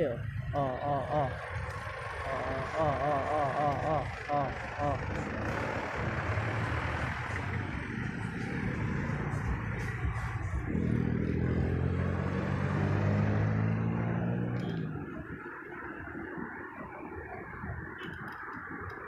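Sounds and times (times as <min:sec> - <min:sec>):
road traffic: 0:00.0 - 0:19.0
vehicle engine droning: 0:00.0 - 0:19.0.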